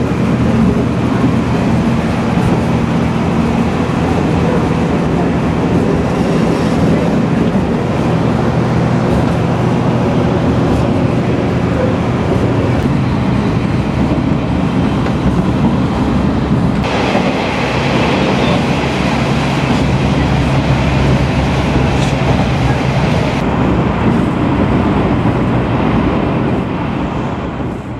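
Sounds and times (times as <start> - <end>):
diesel railcar engine drone: 0.0 - 27.9
rail running noise: 0.0 - 27.9.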